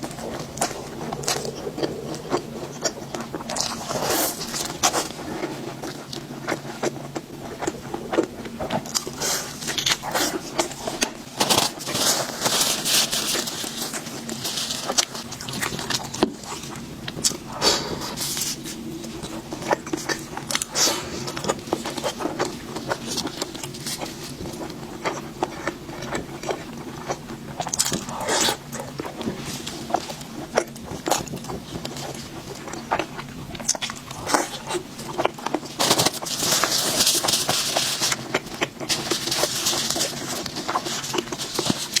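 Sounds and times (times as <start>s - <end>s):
crunchy chewing: 0.0s - 42.0s.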